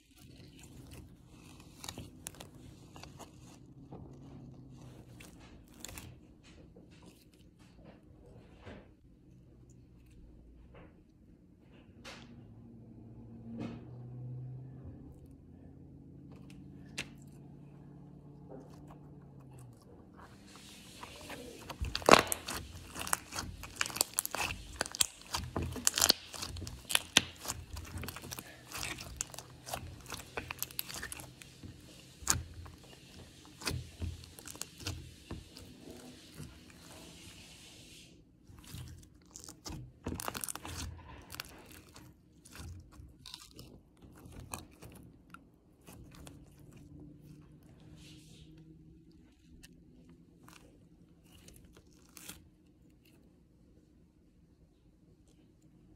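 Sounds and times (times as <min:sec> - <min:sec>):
slime squishing with wet clicks: 0:00.0 - 0:11.3, 0:13.6 - 0:37.7, 0:38.4 - 0:55.9.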